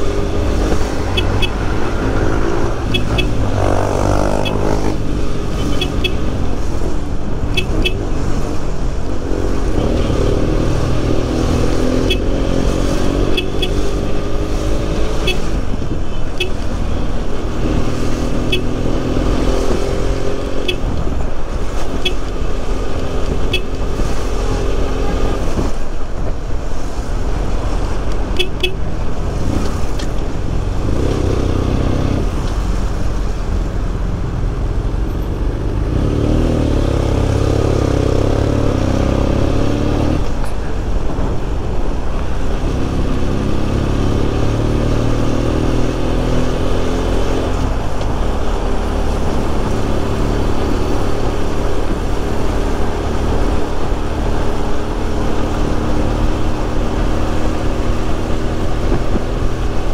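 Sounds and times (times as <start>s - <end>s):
motorcycle engine revving: 0.0s - 8.6s, 9.2s - 25.8s, 27.5s - 33.3s, 35.6s - 41.4s, 42.3s - 59.9s
road and wind rumble: 0.0s - 59.9s.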